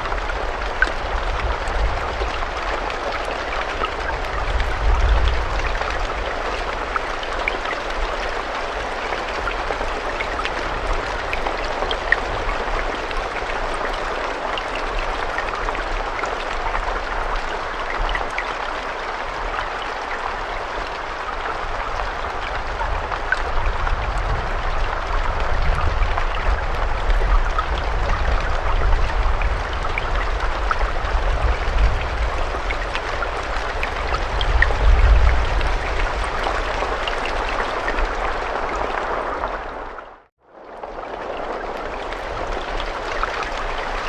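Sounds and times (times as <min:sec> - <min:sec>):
raindrops ticking: 0:00.0 - 0:44.0
steady rain hiss: 0:00.0 - 0:44.0.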